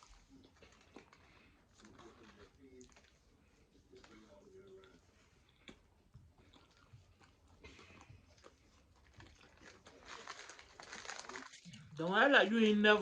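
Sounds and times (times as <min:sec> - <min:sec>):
faint chewing of food: 0:00.0 - 0:12.0.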